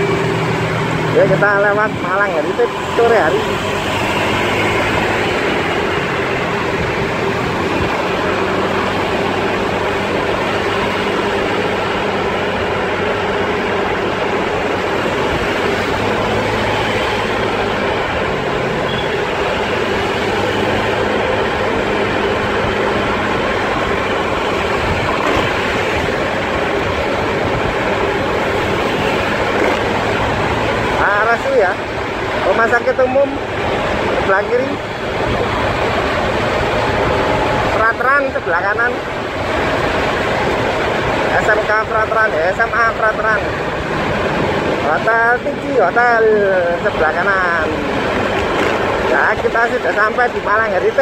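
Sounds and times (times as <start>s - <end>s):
vehicle engine and road noise: 0.0s - 51.0s.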